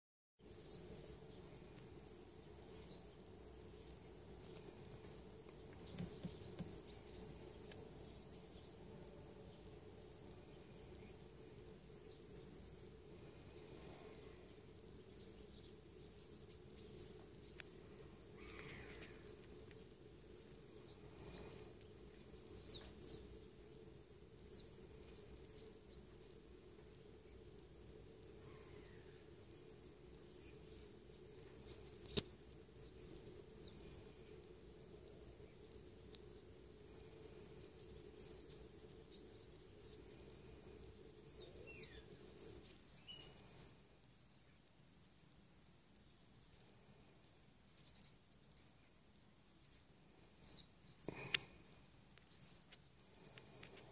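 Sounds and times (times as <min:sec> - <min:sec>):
low background hum: 0:00.4 - 0:53.9
small birds chirping: 0:00.4 - 0:53.9.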